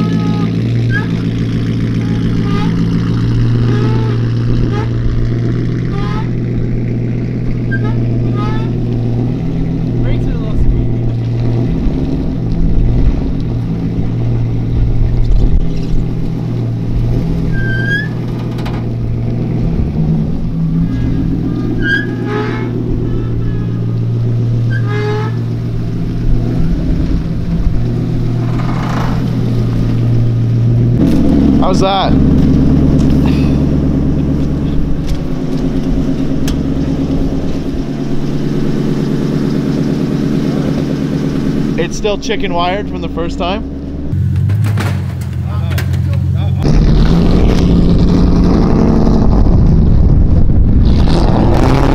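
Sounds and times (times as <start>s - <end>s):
car engine droning: 0.0s - 51.9s.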